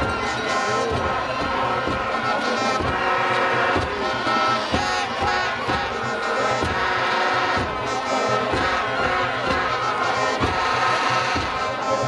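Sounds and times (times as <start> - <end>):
brass band playing: 0.0 - 12.0
steady drum beat: 0.0 - 12.0.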